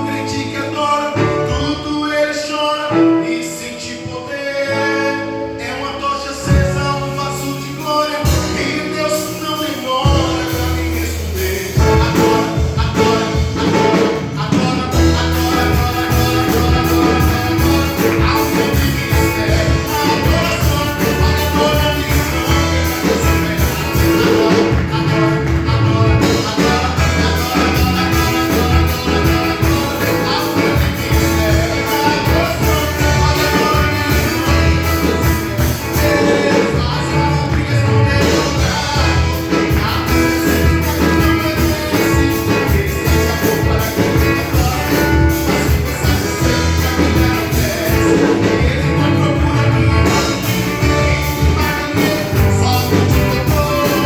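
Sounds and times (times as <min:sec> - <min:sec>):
people singing: 0:00.0 - 0:54.0
worship band music: 0:00.0 - 0:54.0
steady drum beat: 0:06.5 - 0:54.0.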